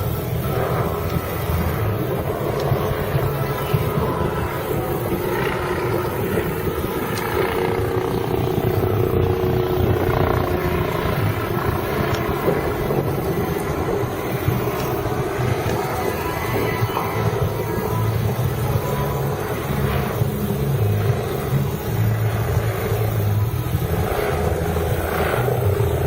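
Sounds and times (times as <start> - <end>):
helicopter drone: 0.0 - 26.0.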